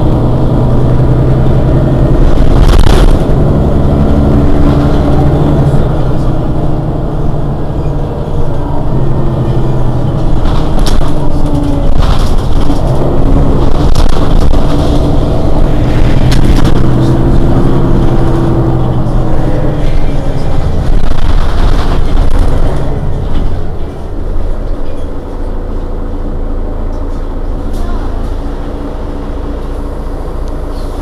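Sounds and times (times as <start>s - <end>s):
bus diesel engine idling: 0.0s - 31.0s.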